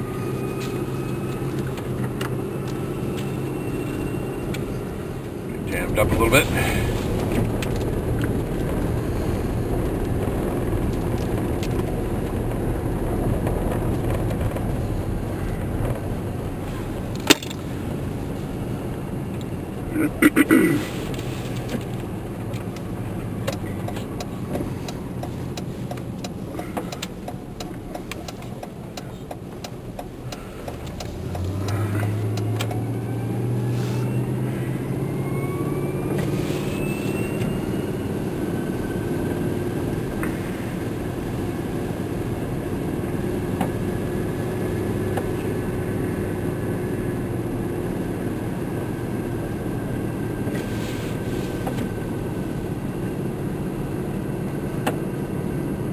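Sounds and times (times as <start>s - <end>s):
vehicle engine drone: 0.0s - 55.9s.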